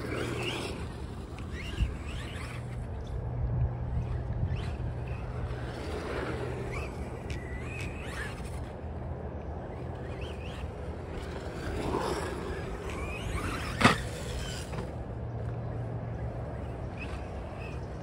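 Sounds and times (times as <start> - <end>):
rc truck motor whine: 0.0 - 18.0.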